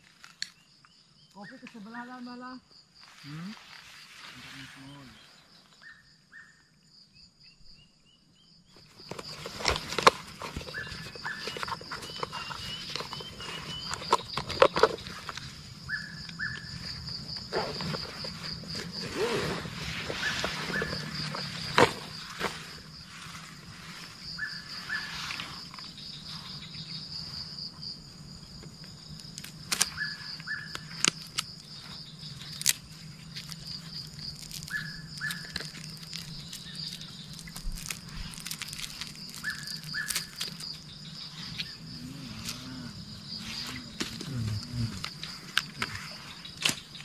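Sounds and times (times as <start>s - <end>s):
insects chorus: 0.0s - 47.0s.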